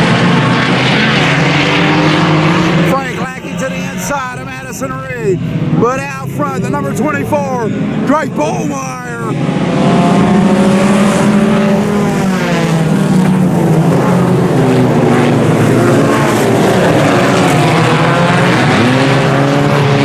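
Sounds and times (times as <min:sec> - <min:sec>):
race car engines at speed: 0:00.0 - 0:20.0.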